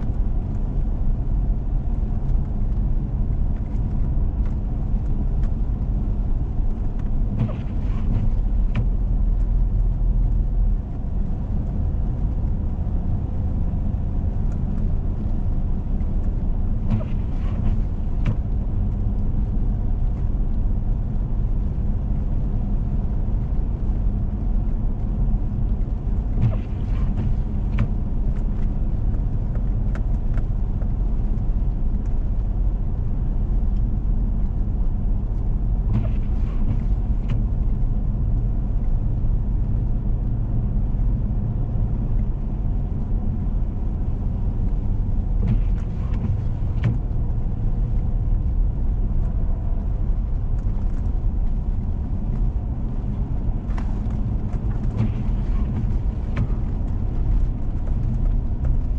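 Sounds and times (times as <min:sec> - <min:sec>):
vehicle engine and tyre rumble: 0:00.0 - 0:58.9.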